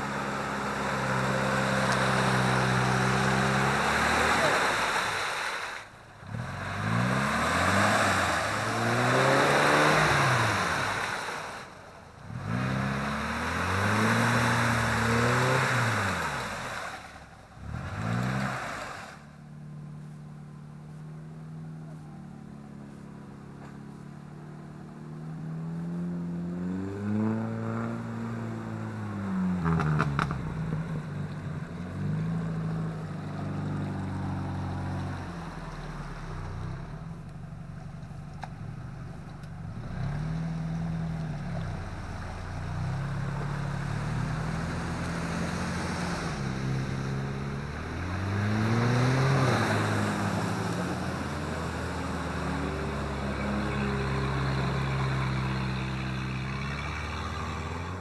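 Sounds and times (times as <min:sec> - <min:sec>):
off-road engine revving: 0:00.0 - 0:58.0.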